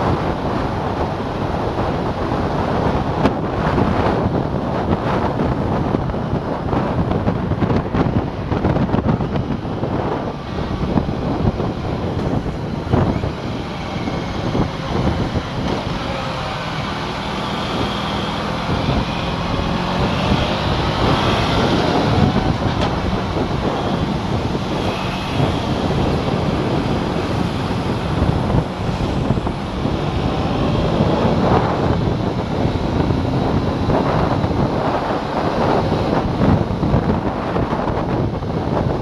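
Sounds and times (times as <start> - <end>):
motorcycle engine running: 0.0 - 39.0
wind rush on microphone: 0.0 - 39.0.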